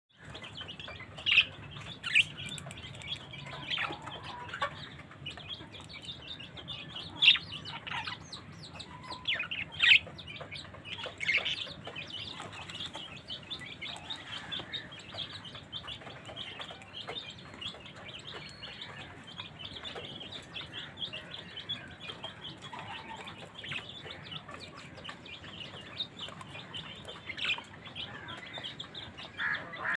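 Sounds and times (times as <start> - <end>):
budgerigars chattering and chirping: 0.1 - 30.0
sharp bird calls: 0.1 - 30.0.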